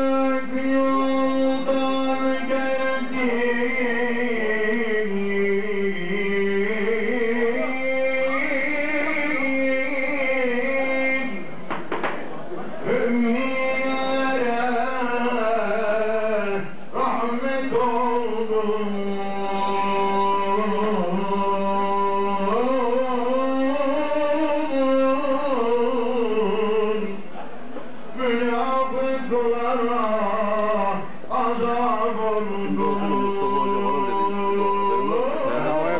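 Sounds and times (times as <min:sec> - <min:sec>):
man chanting religious recitation: 0:00.0 - 0:11.6, 0:12.7 - 0:27.3, 0:28.1 - 0:35.9.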